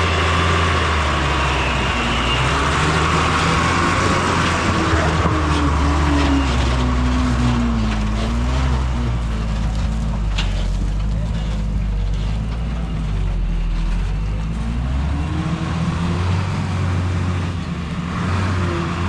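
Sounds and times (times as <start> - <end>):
car engine droning under load: 0.0 - 19.0.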